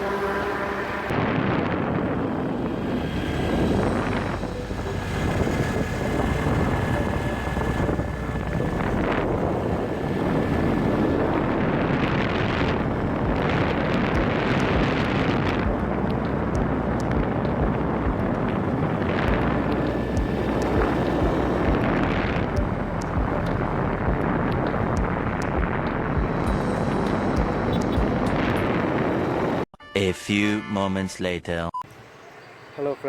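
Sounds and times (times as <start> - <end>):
vehicle running: 0.0 - 29.6
wind on microphone: 0.0 - 29.7.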